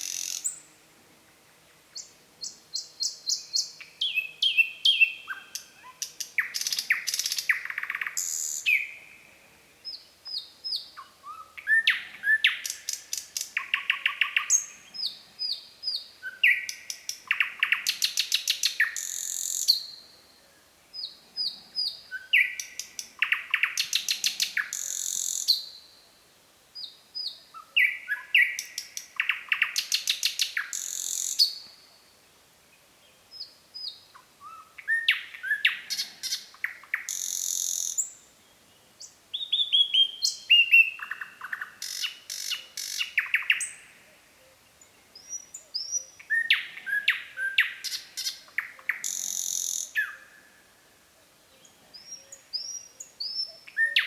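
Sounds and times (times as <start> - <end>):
nightingale singing: 0.0 - 0.8, 1.9 - 26.2, 26.8 - 32.2, 33.0 - 50.6, 51.5 - 54.0.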